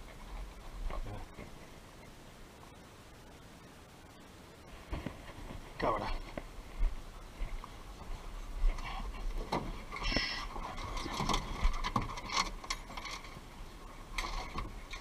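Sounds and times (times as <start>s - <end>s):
rustling vegetation: 0.0s - 15.0s.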